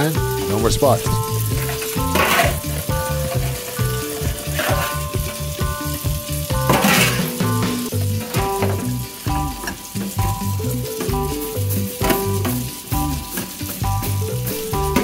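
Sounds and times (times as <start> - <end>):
background music with bass line: 0.0 - 15.0
dish brush scrubbing: 0.0 - 15.0
faucet water splashing into sink: 0.0 - 15.0.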